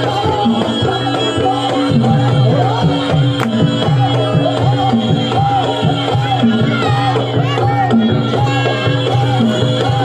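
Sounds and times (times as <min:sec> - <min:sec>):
hand drums with bending pitch: 0:00.0 - 0:10.0.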